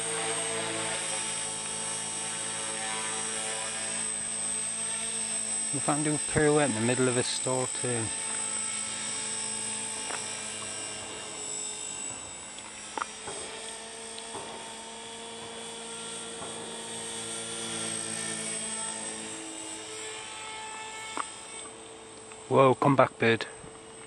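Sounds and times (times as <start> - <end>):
rc helicopter motor whine: 0.0 - 24.0.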